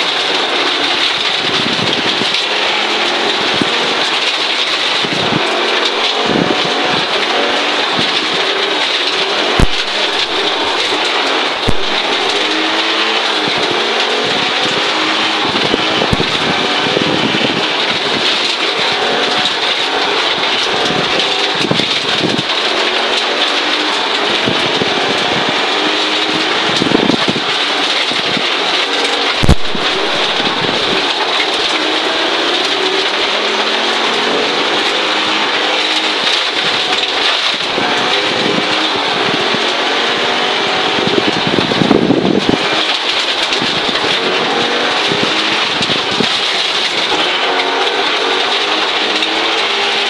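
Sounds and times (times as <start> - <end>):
rally car engine revving: 0.0 - 50.0.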